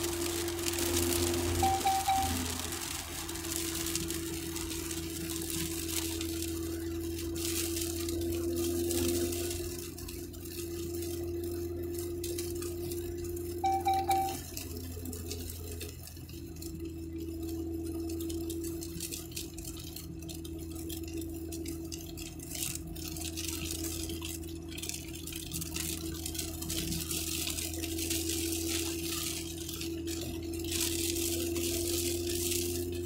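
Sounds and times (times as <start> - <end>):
constant whining tone: 0.0 - 33.0
road rumble inside car: 0.0 - 33.0.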